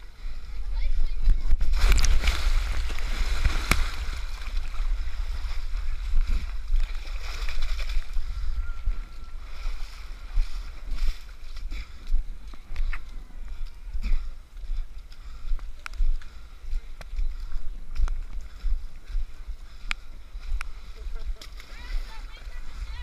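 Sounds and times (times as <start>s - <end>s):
muddy water splashing: 0.0s - 23.0s
wind and handling rumble: 0.0s - 23.0s.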